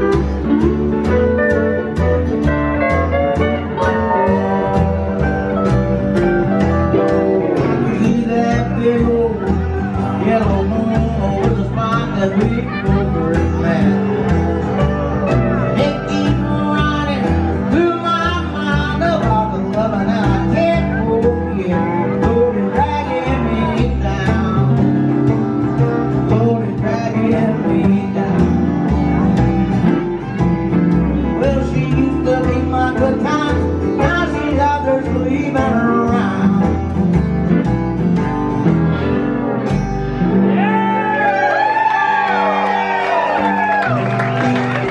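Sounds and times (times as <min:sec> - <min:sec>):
strummed acoustic guitar: 0:00.0 - 0:41.2
drums: 0:00.0 - 0:44.9
lap steel guitar: 0:00.0 - 0:44.9
plucked upright bass: 0:00.0 - 0:44.9.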